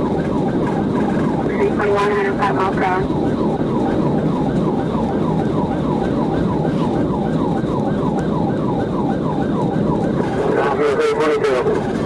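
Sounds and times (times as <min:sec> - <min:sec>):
engine and road noise: 0:00.0 - 0:12.0
police siren yelp: 0:00.0 - 0:12.0.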